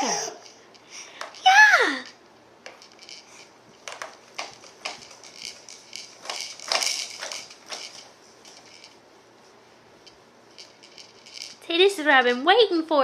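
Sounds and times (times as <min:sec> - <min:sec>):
plastic toys clicking and rattling: 0:00.0 - 0:09.0, 0:10.0 - 0:12.6.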